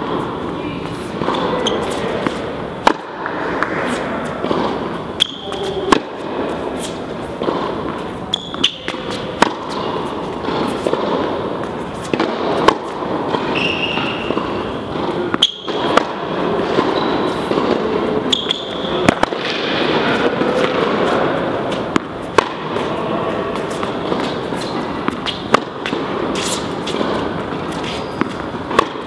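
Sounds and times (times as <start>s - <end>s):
tennis ball hit and bouncing: 0.0s - 29.0s
shoes squeaking on court: 0.1s - 2.6s, 3.4s - 29.0s.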